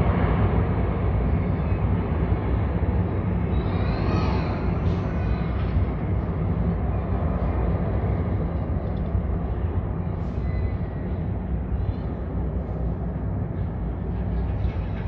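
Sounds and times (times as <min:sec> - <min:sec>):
aircraft engines rumbling overhead: 0:00.0 - 0:15.0.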